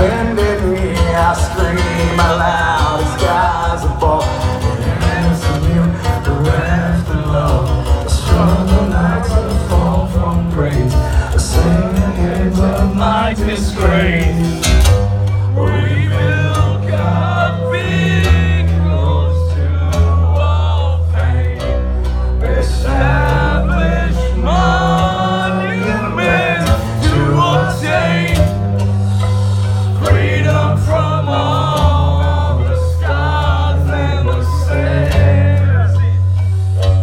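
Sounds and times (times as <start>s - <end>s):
man singing: 0.0s - 15.0s, 15.6s - 21.8s, 22.4s - 28.8s, 29.8s - 36.5s
heavy low bass: 0.0s - 37.0s
heavy metal guitar: 0.0s - 37.0s.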